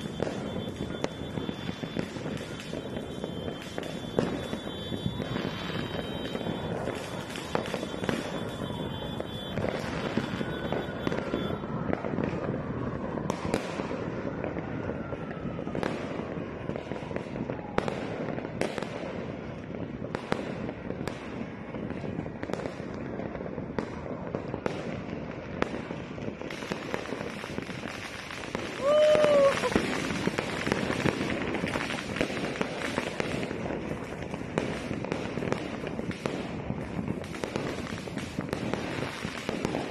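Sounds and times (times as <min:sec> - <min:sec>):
falling firework whistle: 0:00.0 - 0:19.4, 0:25.6 - 0:39.9
firecracker bangs: 0:00.0 - 0:39.9
fireworks crackling: 0:00.0 - 0:39.9.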